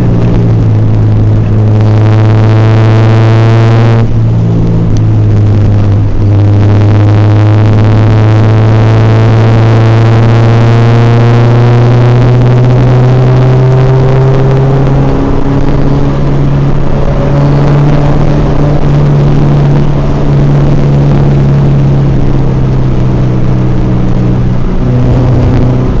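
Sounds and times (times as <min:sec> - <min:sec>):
car engine running under load: 0:00.0 - 0:26.0.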